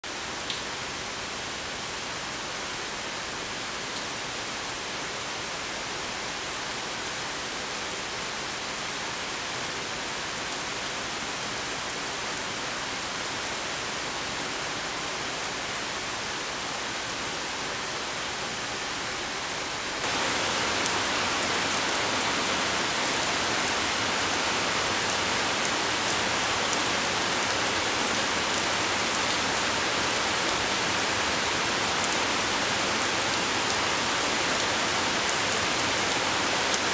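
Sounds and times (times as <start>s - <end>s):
steady rainfall: 0.0s - 36.9s.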